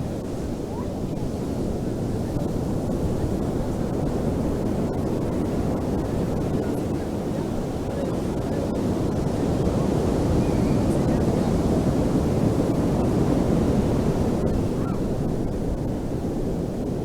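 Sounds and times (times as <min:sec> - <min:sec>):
ocean waves on a beach: 0:00.0 - 0:17.0.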